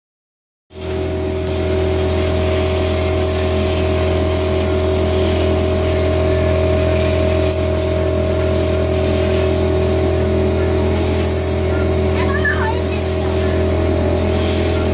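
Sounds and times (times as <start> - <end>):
blower hiss: 0.7 - 14.9
vacuum blower humming: 0.7 - 14.9.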